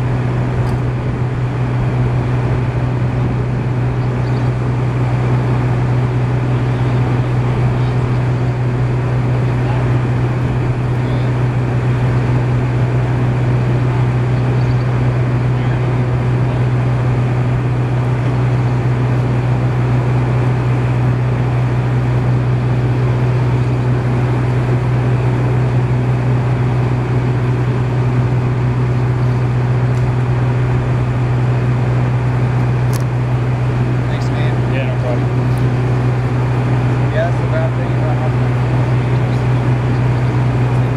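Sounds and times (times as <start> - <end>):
small engine droning: 0.0 - 40.9.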